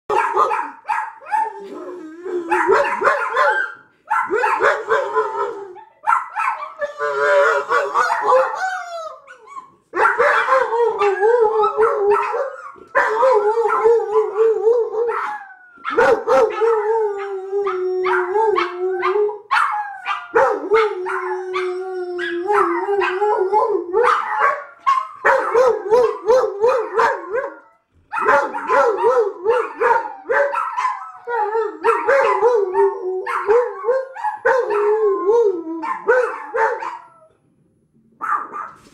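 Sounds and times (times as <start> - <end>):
dogs barking and yipping: 0.1 - 1.7, 2.4 - 17.0, 17.6 - 37.2
dogs howling: 0.1 - 37.4.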